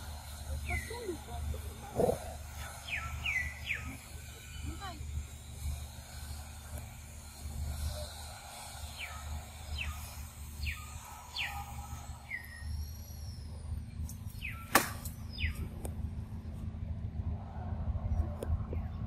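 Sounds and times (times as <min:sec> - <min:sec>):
low wind rumble: 0:00.0 - 0:19.0.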